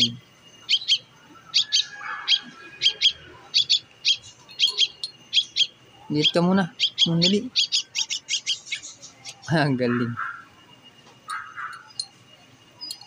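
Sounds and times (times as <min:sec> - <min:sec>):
fledgling bird high chirps: 0:00.0 - 0:13.0.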